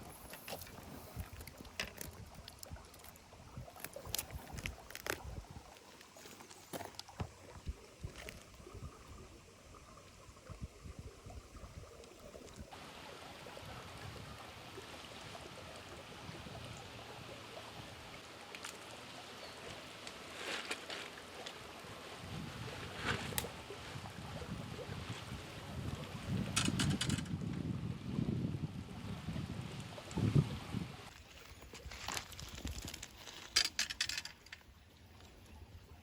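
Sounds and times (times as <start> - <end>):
creek water running: 0.0 - 36.0.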